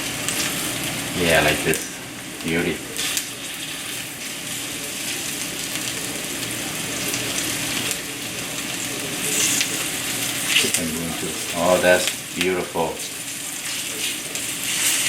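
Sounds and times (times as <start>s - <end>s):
patties sizzling in oil: 0.0s - 15.0s.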